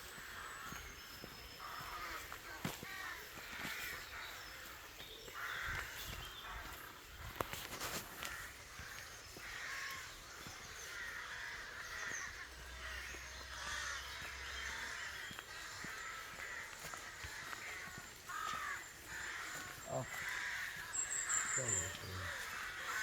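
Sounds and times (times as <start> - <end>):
crows cawing: 0.1 - 23.0.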